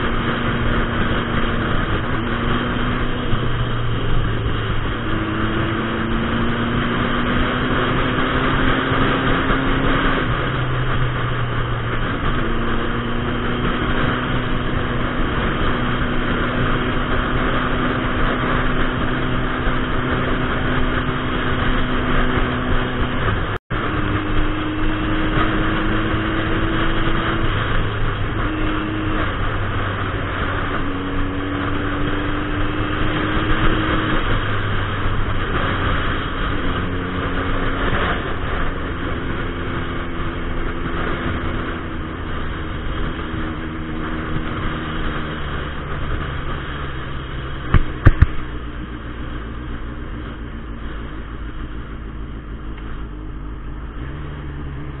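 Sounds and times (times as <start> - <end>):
motorcycle engine accelerating: 0.0 - 55.0
wind rushing over microphone: 0.0 - 55.0.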